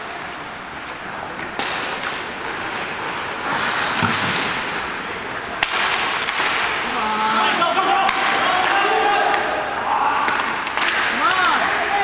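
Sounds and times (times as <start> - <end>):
sticks and puck clacking on boards: 0.0 - 12.0
skates scraping on ice: 0.1 - 12.0.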